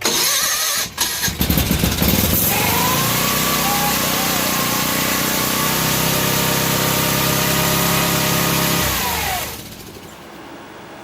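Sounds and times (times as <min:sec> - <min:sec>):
engine racing at high speed: 0:00.0 - 0:10.2.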